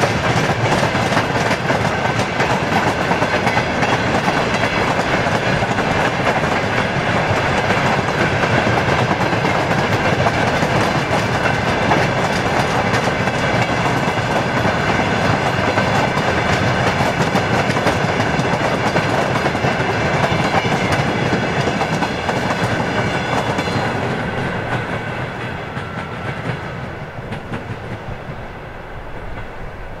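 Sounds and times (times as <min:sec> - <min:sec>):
train wheels clicking over rail joints: 0:00.0 - 0:28.5.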